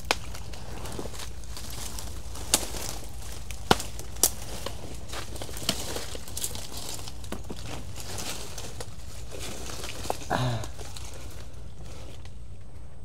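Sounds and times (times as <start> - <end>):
footsteps on leaves and twigs: 0.0 - 13.0.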